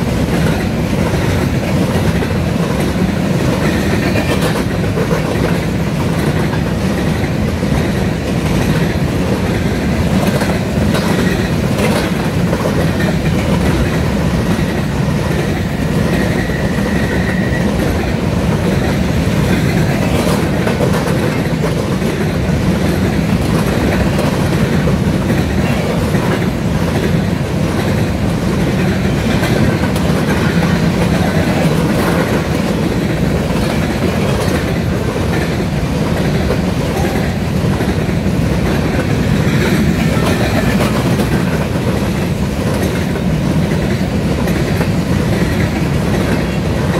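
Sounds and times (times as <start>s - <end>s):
wheels clacking over rail joints: 0.0s - 46.9s.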